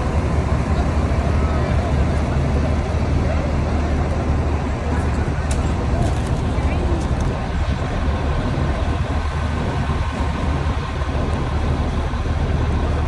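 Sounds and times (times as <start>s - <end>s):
idling engines and traffic rumble: 0.0s - 13.0s.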